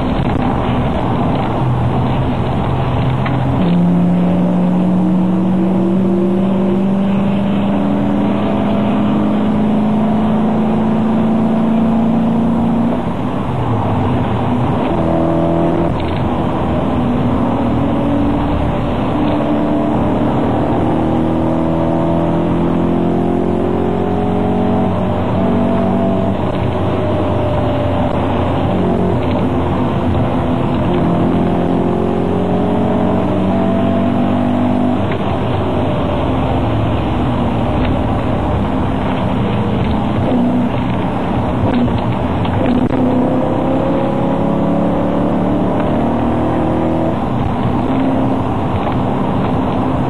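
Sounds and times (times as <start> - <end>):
car engine accelerating: 0.0 - 50.0
road noise: 0.0 - 50.0.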